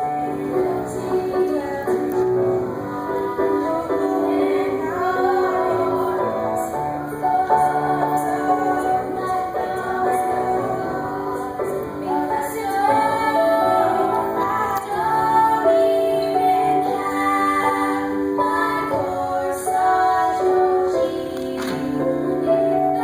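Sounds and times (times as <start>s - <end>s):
woman singing with music: 0.0s - 23.0s.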